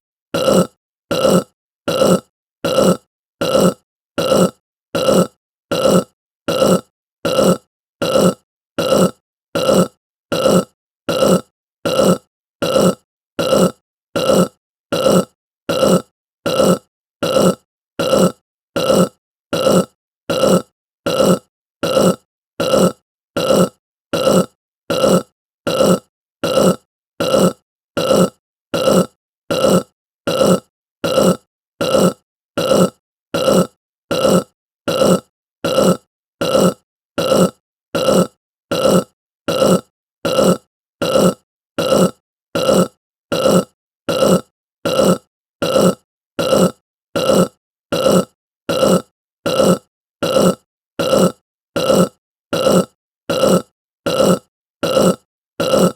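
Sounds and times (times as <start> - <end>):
person burping: 0.4 - 55.9.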